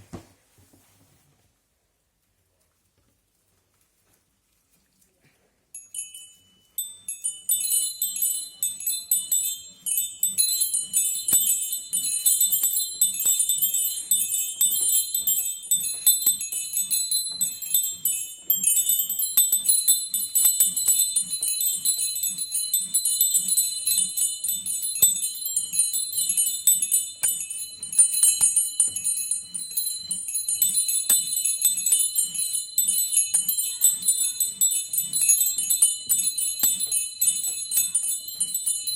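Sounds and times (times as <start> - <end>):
small bells pealing: 5.8 - 38.9.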